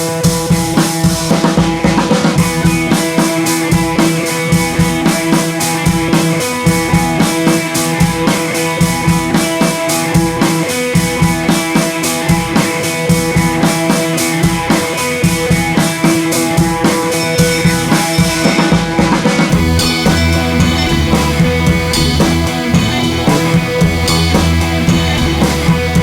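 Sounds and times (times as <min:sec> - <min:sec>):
background music with drum beat: 0:00.0 - 0:26.0.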